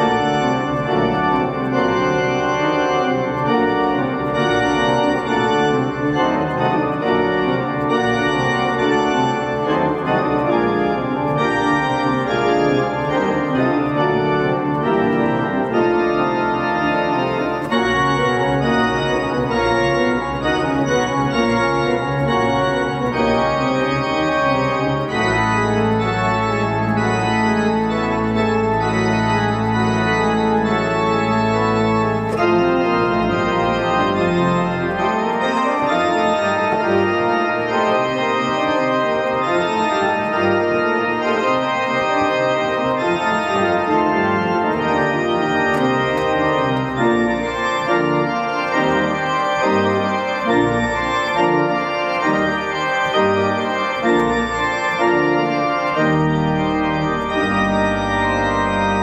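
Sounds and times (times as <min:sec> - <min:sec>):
church organ playing: 0:00.0 - 0:59.0.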